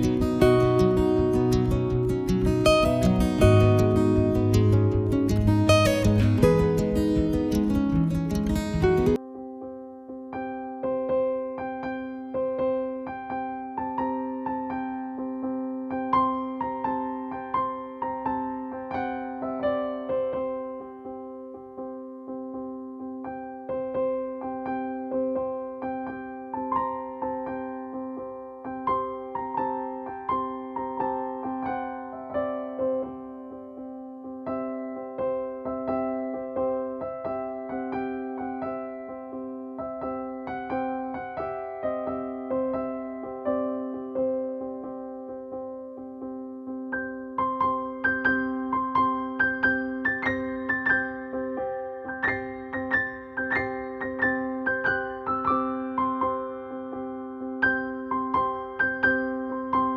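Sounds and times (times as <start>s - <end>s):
gentle electric piano melody: 0.0s - 59.9s.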